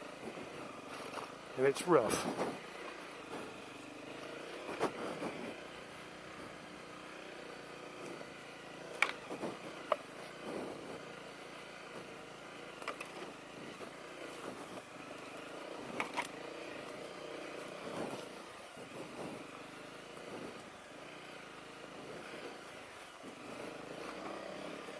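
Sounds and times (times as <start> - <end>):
motorcycle engine at low speed: 0.0 - 24.9.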